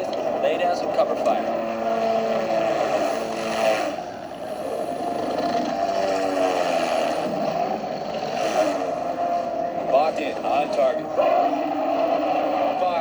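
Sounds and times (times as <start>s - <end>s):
helicopters droning: 0.0s - 13.0s.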